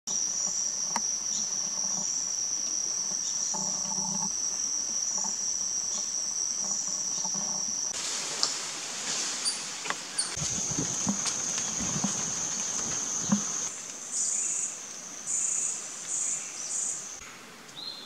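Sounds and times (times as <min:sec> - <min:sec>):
insects trilling: 0:00.1 - 0:17.2.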